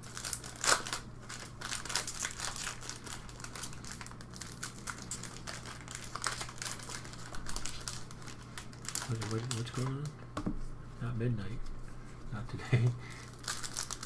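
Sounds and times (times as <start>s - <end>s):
foil wrappers crinkling: 0.0s - 10.2s, 12.7s - 14.0s.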